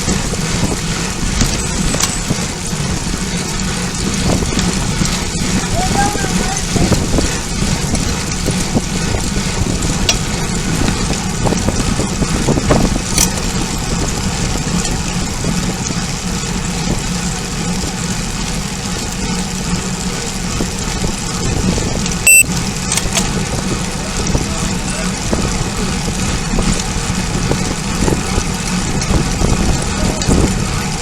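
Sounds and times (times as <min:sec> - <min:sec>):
rushing wind: 0:00.0 - 0:18.4, 0:19.8 - 0:31.0
road noise: 0:00.0 - 0:31.0.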